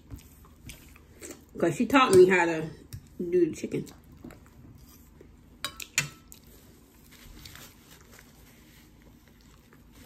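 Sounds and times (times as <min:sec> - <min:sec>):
soft chewing: 0:00.0 - 0:01.6, 0:02.8 - 0:10.0.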